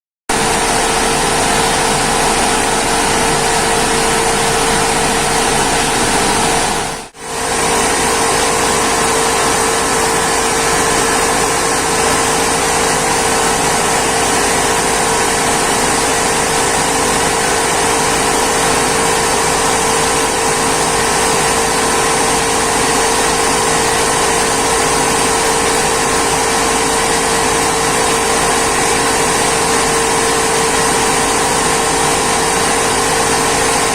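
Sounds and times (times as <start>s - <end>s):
rice mill machinery drone: 0.3s - 33.9s.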